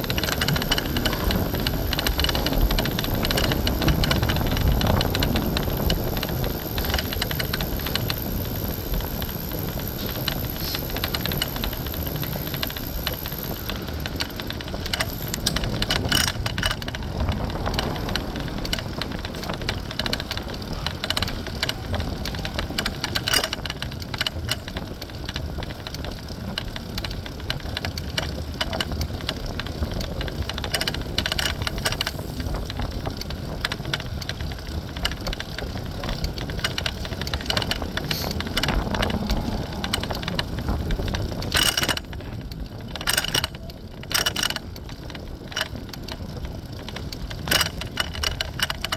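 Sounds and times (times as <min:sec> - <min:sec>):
bike rattling: 0:00.0 - 0:48.9
wind and road noise: 0:00.0 - 0:48.9.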